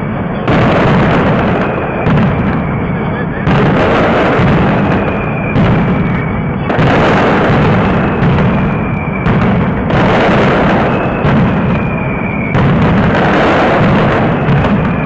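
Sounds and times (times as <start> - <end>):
firework bangs: 0.0 - 15.0
firework whistles: 0.0 - 15.0.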